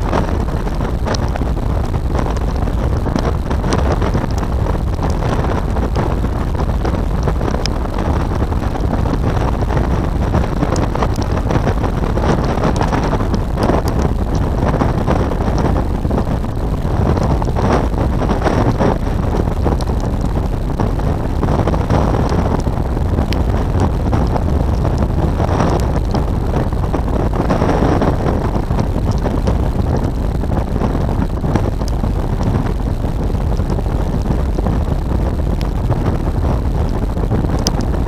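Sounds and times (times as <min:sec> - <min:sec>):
wind rushing over microphone: 0:00.0 - 0:38.0.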